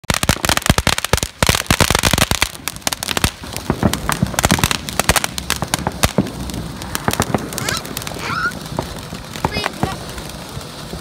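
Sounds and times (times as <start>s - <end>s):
fireworks hissing: 0.0s - 11.0s
fountain fireworks crackling: 0.0s - 11.0s.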